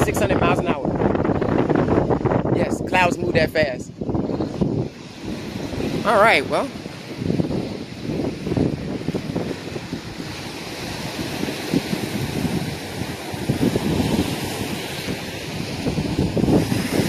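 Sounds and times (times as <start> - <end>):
waves washing against shore: 0.0 - 17.0
wind buffeting microphone: 0.0 - 17.0.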